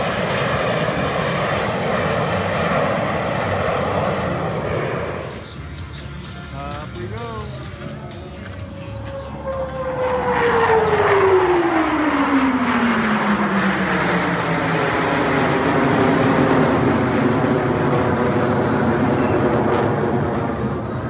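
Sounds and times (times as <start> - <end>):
jets flying past: 0.0 - 21.0.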